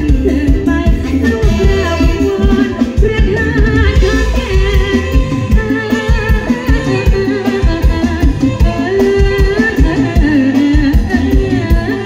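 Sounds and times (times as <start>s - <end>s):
drum kit beat: 0.0s - 12.0s
woman singing: 0.0s - 12.0s.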